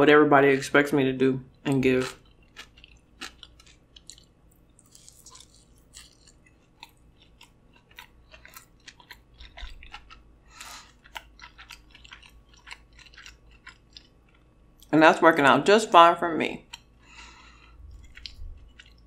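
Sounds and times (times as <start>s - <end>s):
crunchy chewing: 1.5s - 14.9s, 16.6s - 19.0s.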